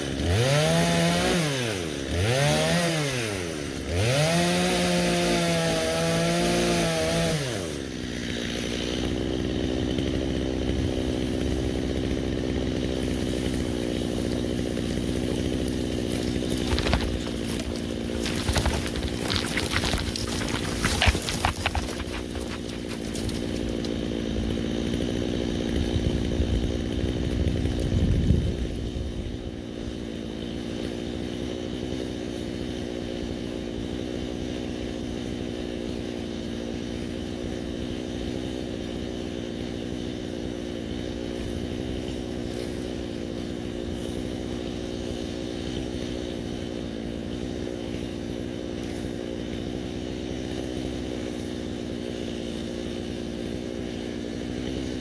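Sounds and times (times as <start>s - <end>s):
chainsaw running: 0.0s - 55.0s.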